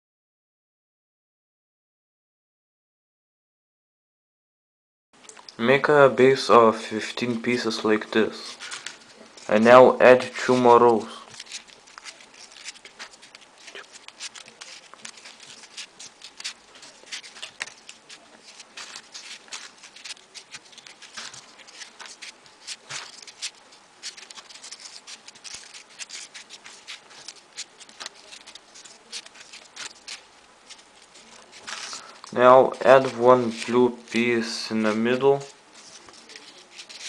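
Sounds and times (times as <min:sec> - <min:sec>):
paper clicks and rustles: 0:05.2 - 0:05.6, 0:06.9 - 0:37.0.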